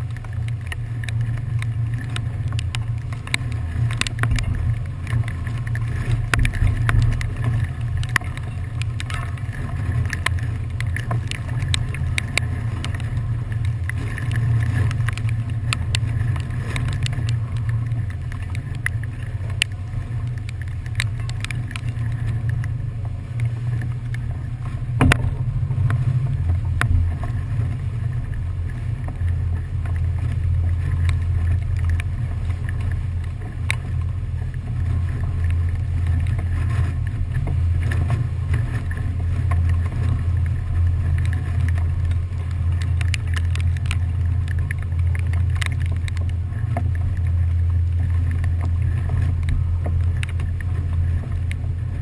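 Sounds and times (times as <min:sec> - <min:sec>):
wind on open deck: 0:00.0 - 0:52.0.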